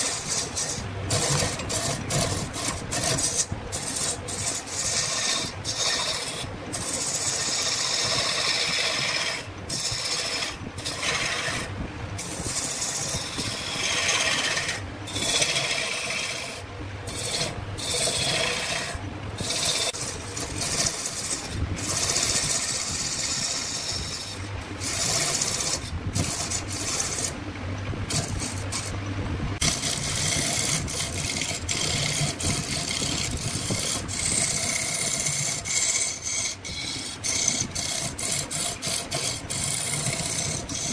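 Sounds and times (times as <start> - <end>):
lathe tool scraping spinning wood: 0.0 - 27.4, 28.0 - 29.0, 29.6 - 40.9.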